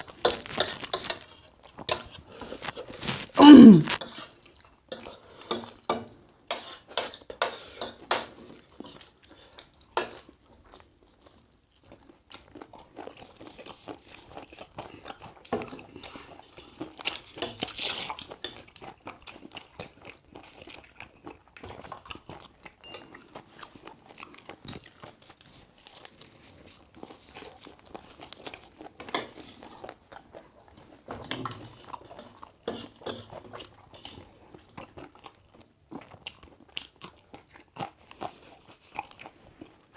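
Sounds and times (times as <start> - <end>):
person crunching and chewing: 0.0 - 5.9, 6.9 - 39.9.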